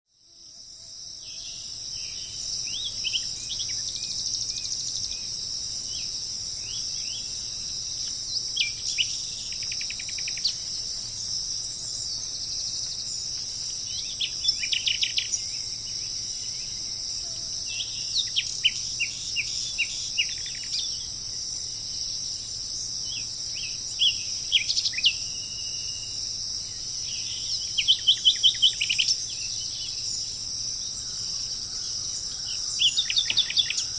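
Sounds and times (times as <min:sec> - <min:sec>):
high-pitched insect chorus: 0:00.1 - 0:33.9
songbirds singing: 0:00.4 - 0:33.9.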